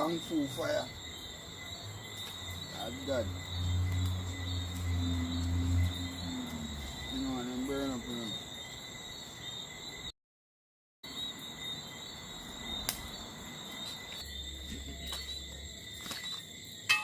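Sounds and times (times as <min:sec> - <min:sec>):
night insects trilling: 0:00.0 - 0:10.1, 0:11.0 - 0:17.0.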